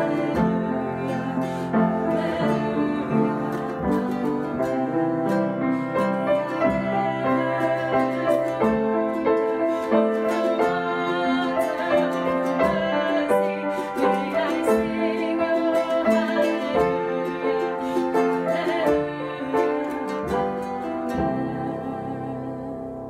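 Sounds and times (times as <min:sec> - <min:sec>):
strummed ukulele: 0:00.0 - 0:23.0
upright piano: 0:00.0 - 0:23.0
woman and man singing: 0:00.0 - 0:23.0.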